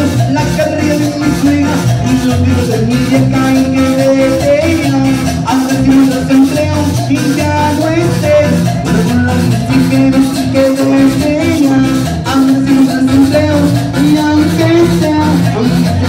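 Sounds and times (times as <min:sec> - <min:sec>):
live band playing dance music: 0:00.0 - 0:16.0.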